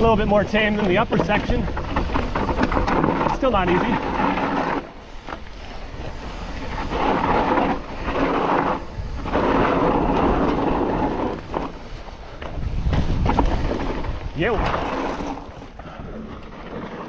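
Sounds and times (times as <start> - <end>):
bike tyres rumbling over dirt: 0.0 - 17.0
wind on microphone: 0.0 - 17.0.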